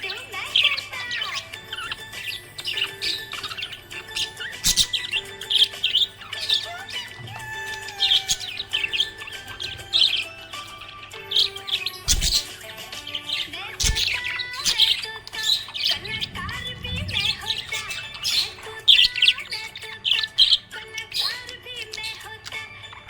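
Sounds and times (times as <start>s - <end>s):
budgie chirping and warbling: 0.0s - 23.0s.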